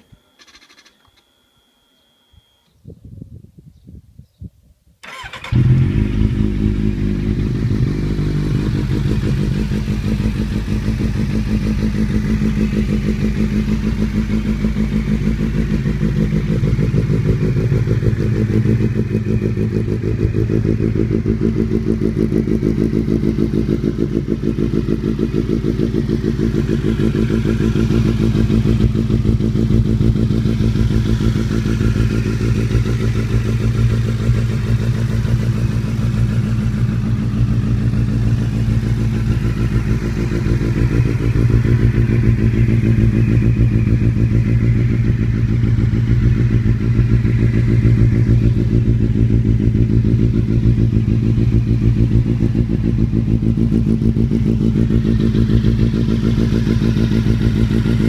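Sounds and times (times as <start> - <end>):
motorcycle engine idling: 5.0 - 58.0.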